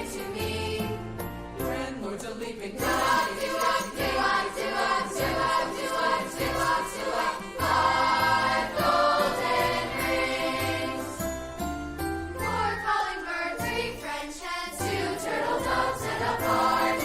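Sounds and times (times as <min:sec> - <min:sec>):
choir singing christmas music: 0:00.0 - 0:17.0
instrumental accompaniment: 0:02.8 - 0:17.0.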